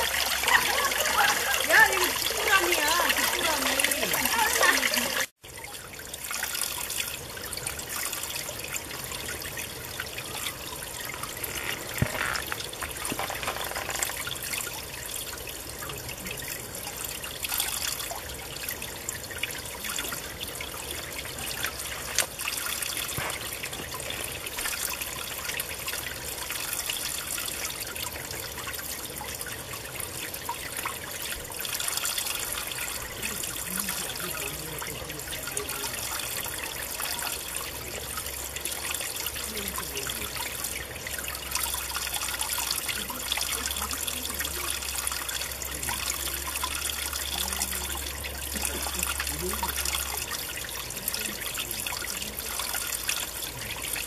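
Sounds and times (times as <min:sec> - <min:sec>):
stream water babbling: 0:00.0 - 0:54.0.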